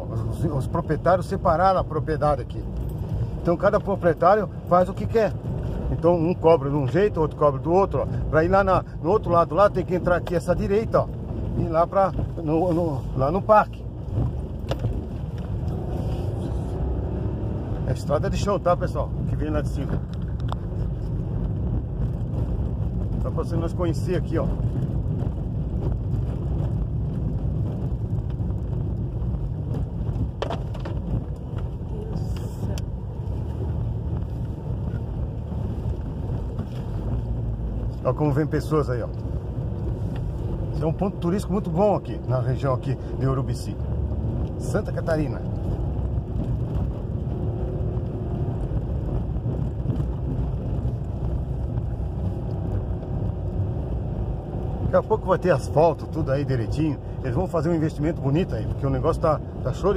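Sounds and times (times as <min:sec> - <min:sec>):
car rumbling on gravel road: 0:00.0 - 0:59.9.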